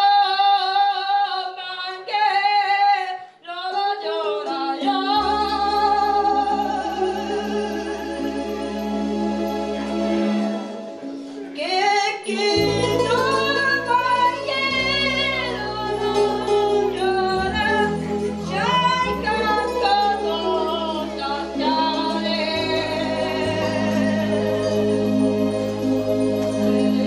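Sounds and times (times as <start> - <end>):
woman singing with vibrato: 0.0 - 8.8, 11.6 - 25.2, 26.5 - 27.0.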